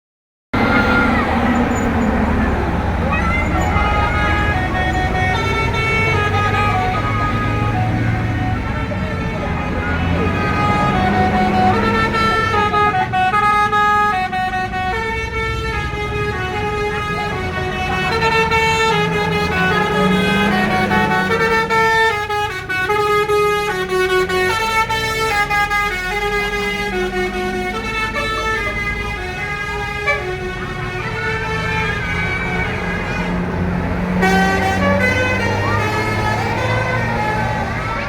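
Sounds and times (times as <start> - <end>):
low engine rumble: 0.6 - 38.0
musical bus air horn: 0.6 - 38.0.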